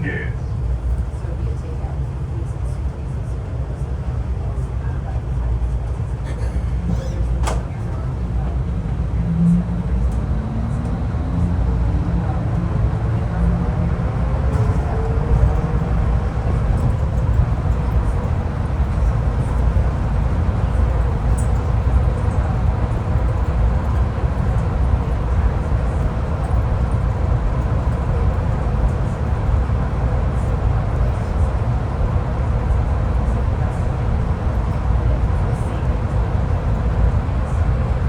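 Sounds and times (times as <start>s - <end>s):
train interior low rumble: 0.0s - 38.0s.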